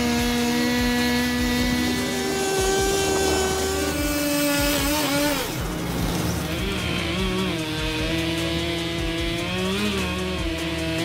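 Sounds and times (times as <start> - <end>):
chainsaw cutting tree trunk: 0.0 - 11.0.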